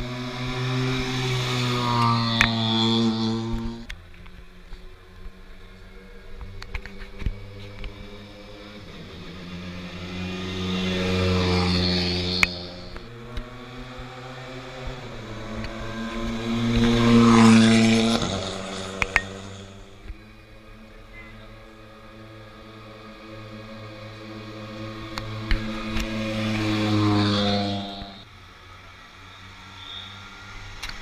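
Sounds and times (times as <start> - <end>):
rally cars driving past: 0.0 - 31.0.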